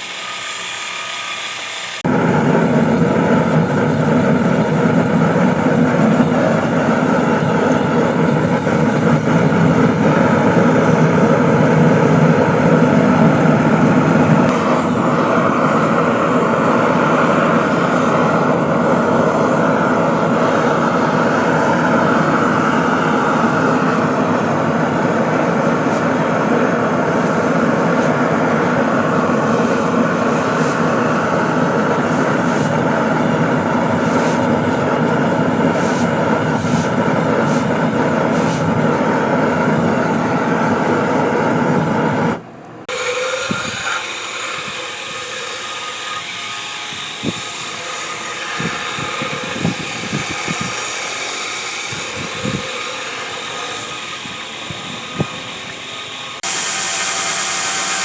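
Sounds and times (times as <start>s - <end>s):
machinery loud rushing noise: 0.0s - 58.0s
quiet machine running: 0.0s - 58.0s.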